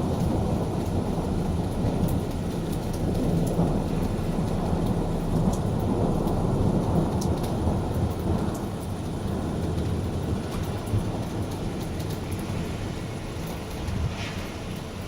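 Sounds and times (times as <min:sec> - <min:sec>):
faint rain ticks: 0:00.0 - 0:15.0
thunder rumbling: 0:00.0 - 0:15.0.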